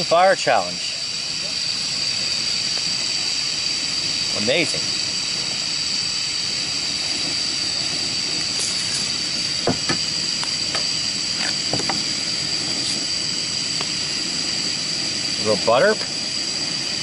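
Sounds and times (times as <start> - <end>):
camp stove burner hissing: 0.0 - 17.0.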